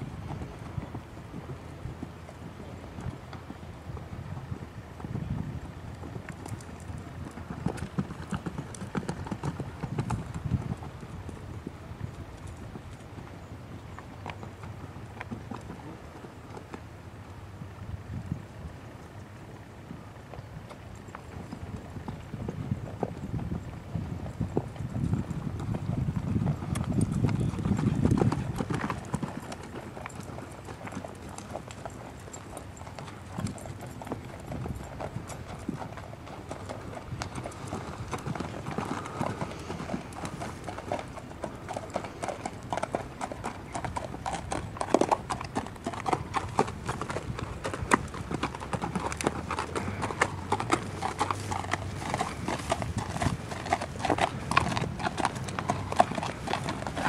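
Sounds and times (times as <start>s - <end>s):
horse hooves clip-clopping on gravel: 0.0s - 57.0s.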